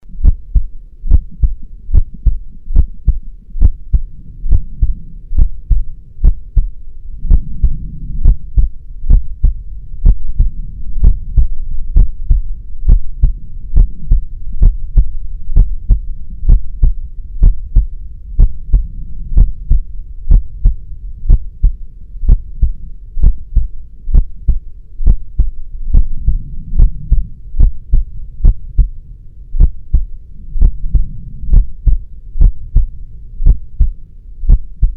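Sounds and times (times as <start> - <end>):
low rumble: 0.0 - 34.9
heartbeat thumping: 0.1 - 29.0, 29.6 - 34.9.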